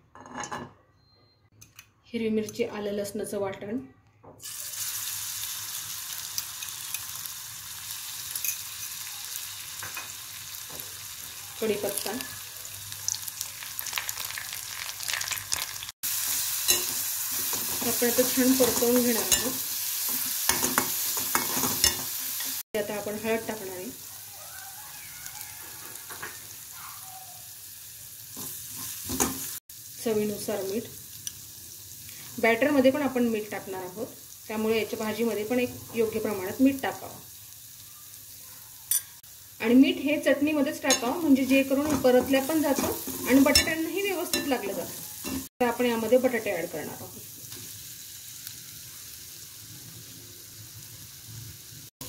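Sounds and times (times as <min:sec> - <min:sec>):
paste sizzling in hot oil: 0:04.4 - 0:26.8, 0:27.4 - 0:51.9.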